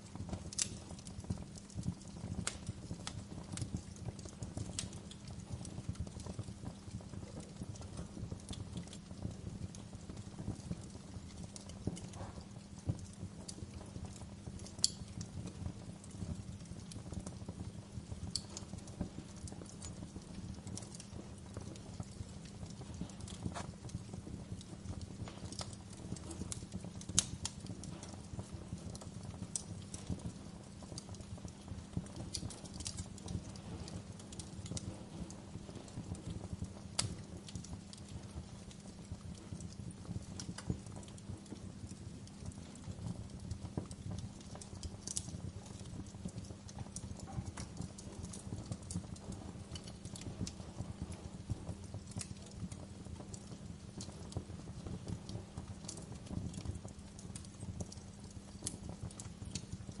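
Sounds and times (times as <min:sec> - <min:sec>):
fire pops and snaps: 0:00.0 - 1:00.0
wood fire crackling: 0:00.0 - 1:00.0.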